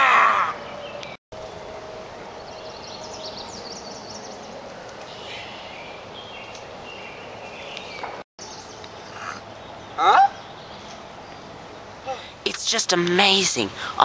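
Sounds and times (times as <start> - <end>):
outdoor background noise: 0.0 - 14.0
birds chirping: 0.4 - 12.5.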